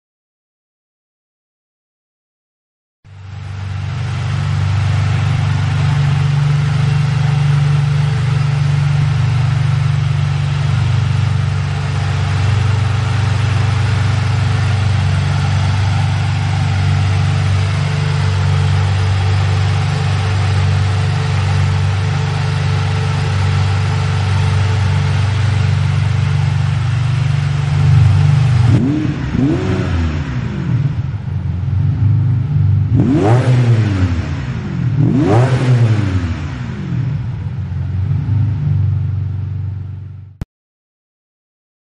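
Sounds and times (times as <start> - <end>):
car engine idling: 3.1 - 40.4
engine revving: 3.5 - 39.0.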